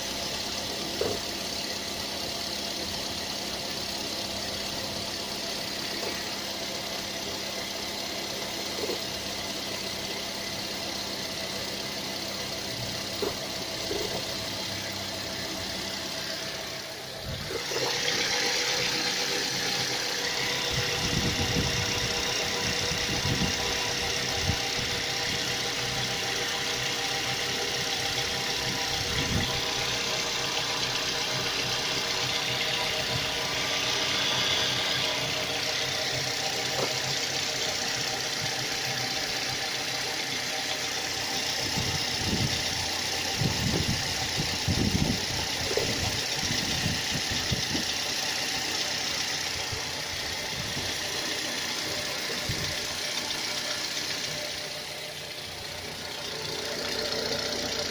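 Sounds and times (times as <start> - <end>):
car engine idling: 0.0 - 57.9
steady engine whine: 0.0 - 57.9.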